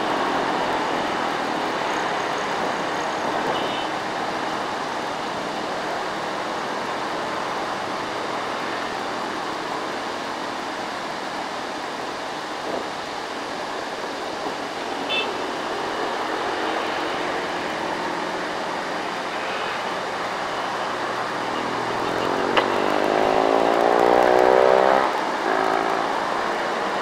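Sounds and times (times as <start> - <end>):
road traffic: 0.0 - 27.0.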